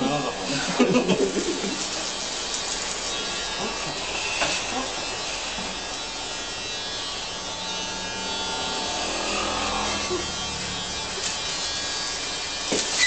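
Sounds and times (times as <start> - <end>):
electric hair clippers running: 0.0 - 13.0.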